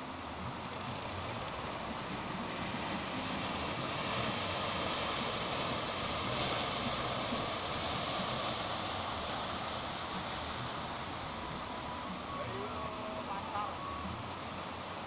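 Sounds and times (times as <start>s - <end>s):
waves and churning surf: 0.0s - 15.0s.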